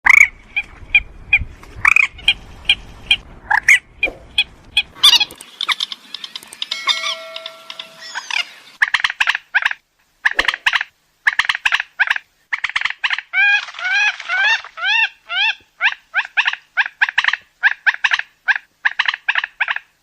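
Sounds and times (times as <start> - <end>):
bird harsh calls and chattering: 0.2 - 18.2.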